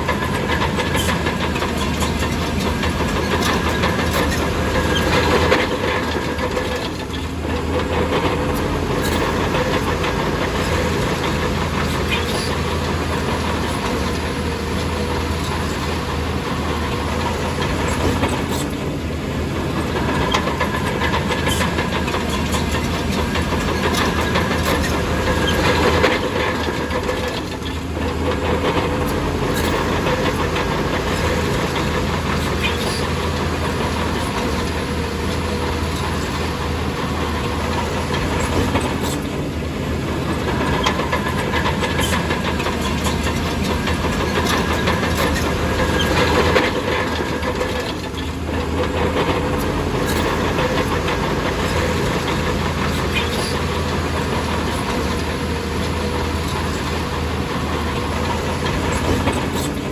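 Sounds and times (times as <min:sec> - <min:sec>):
diesel engine running: 0:00.0 - 0:59.9
machinery clanks and knocks: 0:00.0 - 0:59.9.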